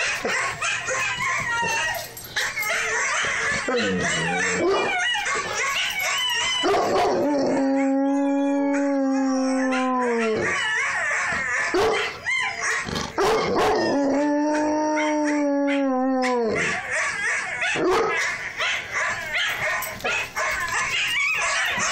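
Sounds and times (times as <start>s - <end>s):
puppy yipping and whining: 0.0s - 7.2s, 9.7s - 14.0s, 15.7s - 21.9s
puppy howling: 0.0s - 21.9s.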